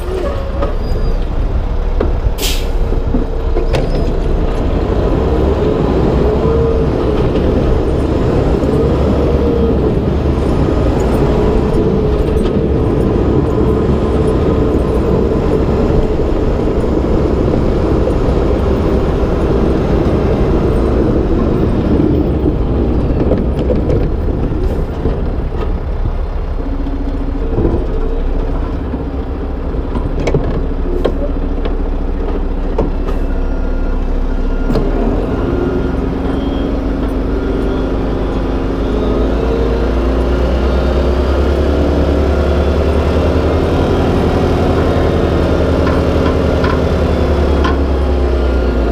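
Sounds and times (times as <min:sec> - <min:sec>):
truck engine and road drone: 0:00.0 - 0:48.9.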